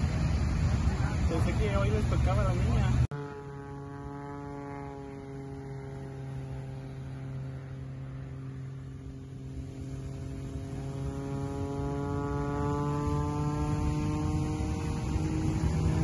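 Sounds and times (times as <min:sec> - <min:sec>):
airplane engine droning overhead: 0:00.0 - 0:16.0.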